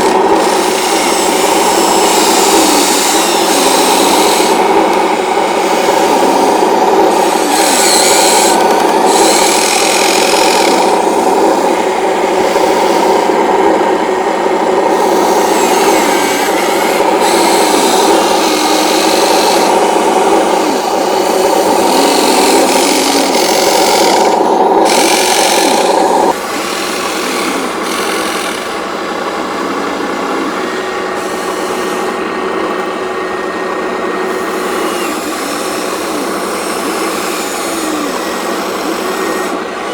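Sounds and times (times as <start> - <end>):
toy electric motors and gearboxes: 0.0 - 39.9.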